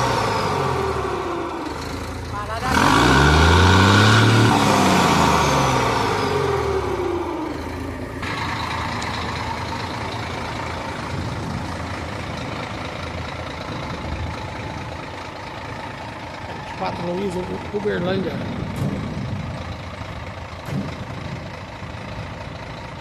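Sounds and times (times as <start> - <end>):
truck engine pulling away: 0.0 - 23.0.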